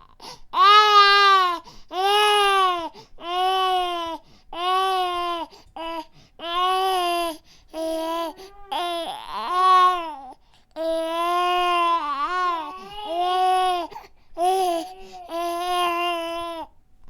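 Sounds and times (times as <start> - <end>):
infant crying: 0.0 - 16.7.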